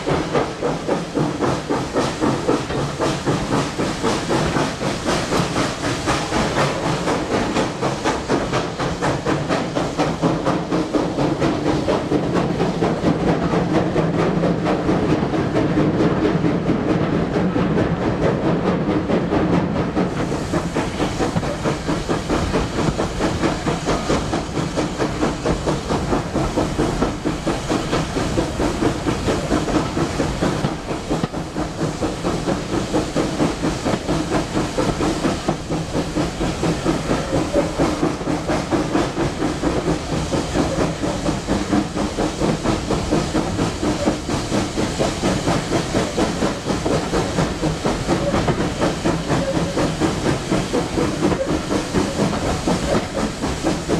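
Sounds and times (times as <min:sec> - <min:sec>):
steam hiss: 0:00.0 - 0:53.9
steam locomotive chuffing: 0:00.0 - 0:53.9.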